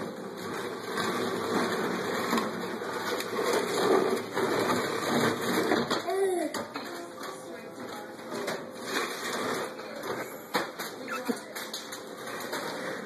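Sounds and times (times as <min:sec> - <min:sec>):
toy cradle rockers scraping and rattling: 0:00.0 - 0:13.0.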